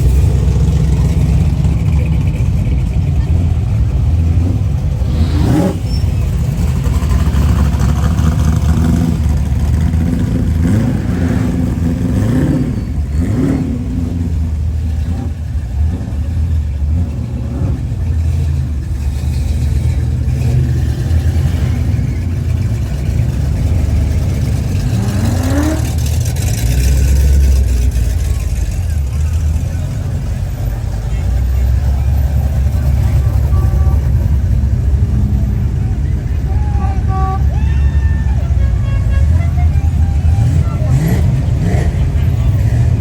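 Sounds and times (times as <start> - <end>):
car engines revving: 0.0 - 43.0.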